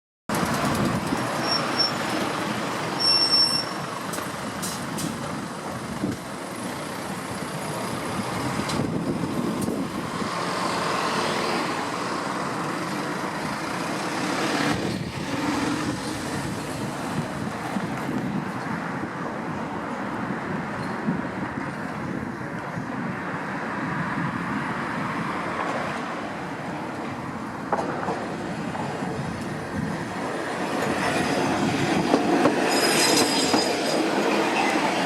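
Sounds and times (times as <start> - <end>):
road traffic: 0.3 - 35.0
streetcar running: 0.3 - 35.0.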